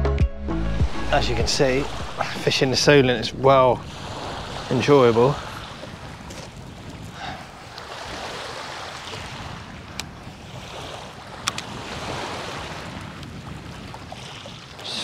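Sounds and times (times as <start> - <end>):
wind on microphone: 0.8 - 15.0
waves lapping on shingle: 0.9 - 15.0.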